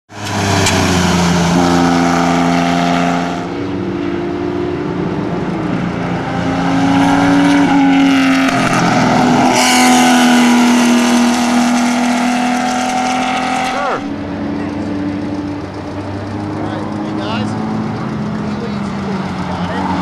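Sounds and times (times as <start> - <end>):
race car engines accelerating: 0.1 - 20.0.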